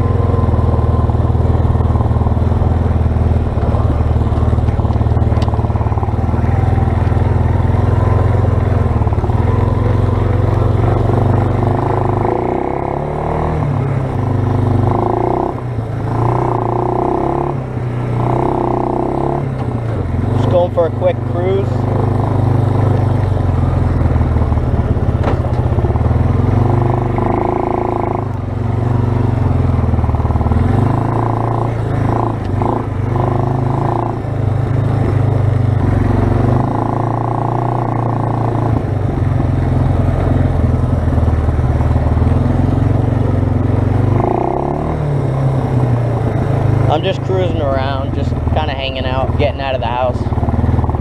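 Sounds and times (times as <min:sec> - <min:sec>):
atv engine running: 0:00.0 - 0:51.0.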